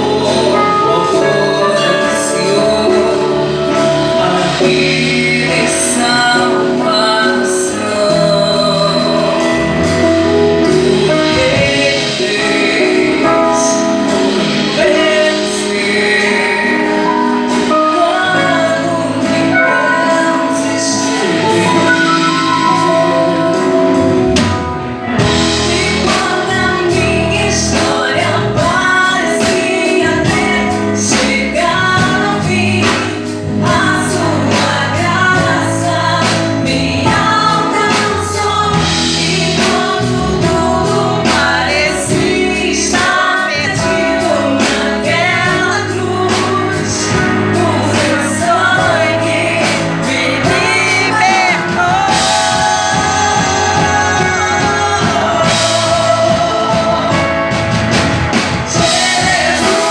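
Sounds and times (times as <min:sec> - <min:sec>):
gospel song with instruments: 0:00.0 - 0:59.9.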